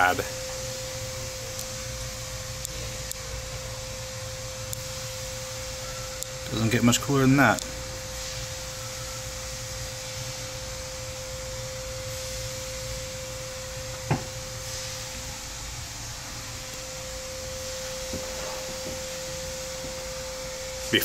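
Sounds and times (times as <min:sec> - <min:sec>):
low hum: 0:00.0 - 0:21.0
steady whine: 0:00.0 - 0:21.0.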